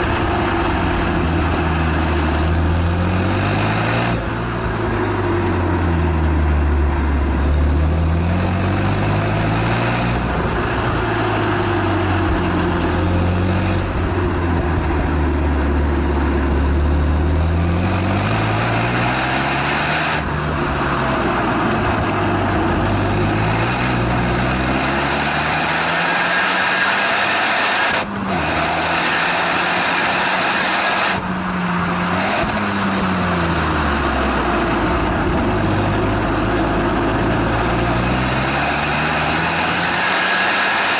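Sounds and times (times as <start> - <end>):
car engine exhaust revving: 0.0 - 40.9.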